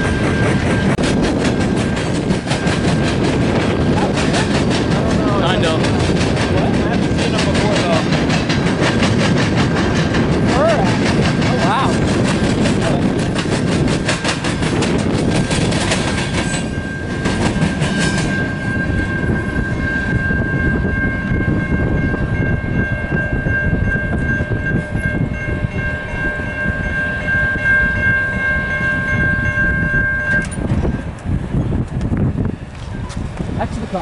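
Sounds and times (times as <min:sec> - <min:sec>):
crossing warning bell ringing: 0:00.0 - 0:31.7
heavy train rumble: 0:00.0 - 0:34.0
train wheels clattering on rails: 0:00.0 - 0:34.0.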